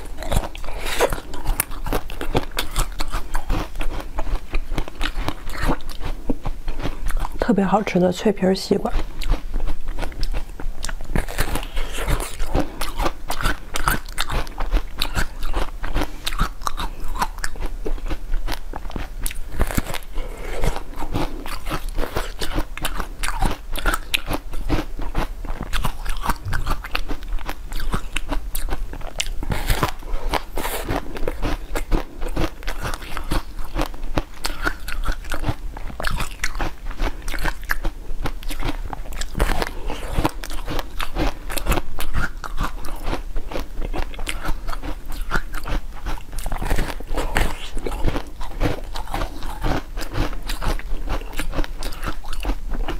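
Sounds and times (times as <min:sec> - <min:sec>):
crunchy jelly chewing: 0:00.0 - 0:08.0, 0:08.9 - 0:52.9.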